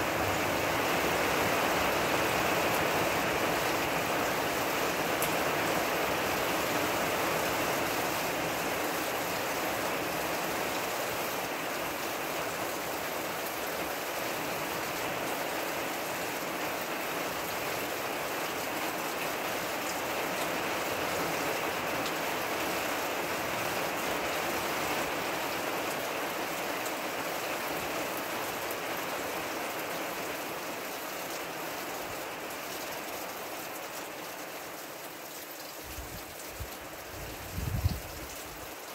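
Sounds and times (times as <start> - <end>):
rain shower hiss: 0.0 - 38.9.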